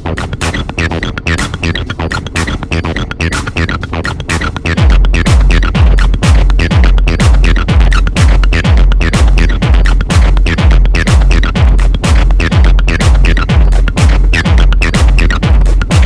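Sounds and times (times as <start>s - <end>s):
electronic dance music: 0.0s - 16.0s
kick drum and bass: 0.0s - 16.0s.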